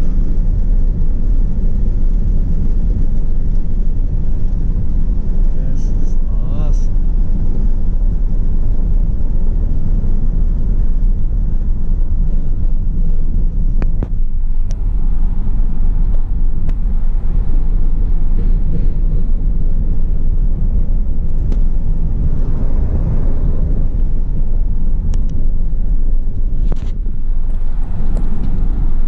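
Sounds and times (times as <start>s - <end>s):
truck engine and road noise: 0.0s - 29.0s.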